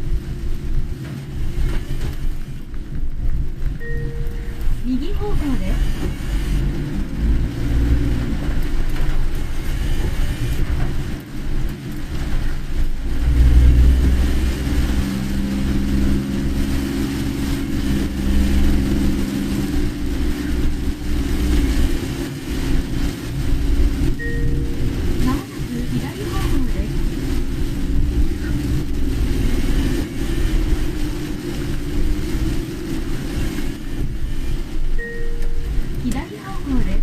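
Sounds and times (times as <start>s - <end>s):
car engine hum: 0.0s - 37.0s
road rumble: 0.0s - 37.0s.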